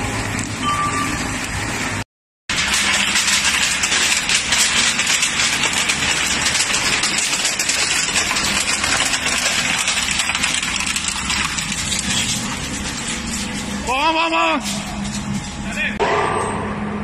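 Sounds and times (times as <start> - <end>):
crushing machine running: 0.0 - 16.0.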